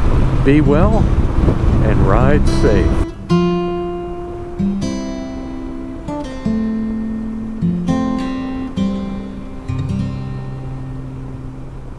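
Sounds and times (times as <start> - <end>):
acoustic guitar strumming chords: 0.0 - 11.9.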